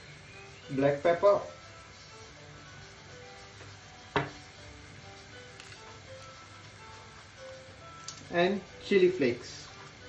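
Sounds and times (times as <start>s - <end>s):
soft plucked background music: 0.0s - 10.0s.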